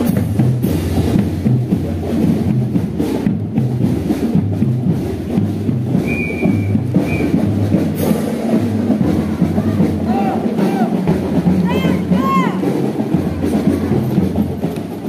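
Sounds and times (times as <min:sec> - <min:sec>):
parade drum cadence: 0:00.0 - 0:15.0.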